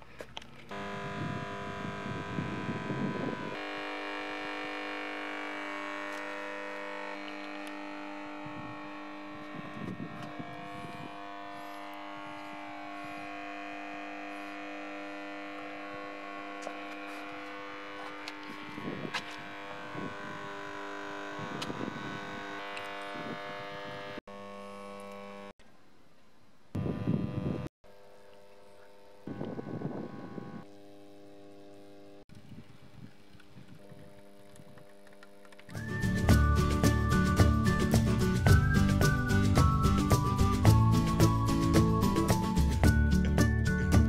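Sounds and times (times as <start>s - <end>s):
electric water pump humming: 0.0s - 25.6s, 26.7s - 44.0s.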